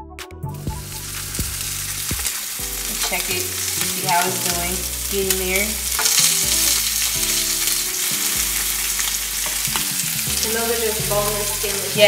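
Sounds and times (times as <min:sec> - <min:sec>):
chicken sizzling in frying pan: 0:00.7 - 0:12.0.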